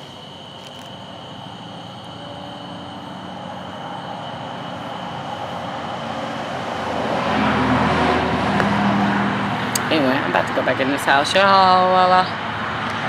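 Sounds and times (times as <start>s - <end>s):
low engine hum: 0.0s - 13.0s
motor vehicle approaching: 0.0s - 13.0s.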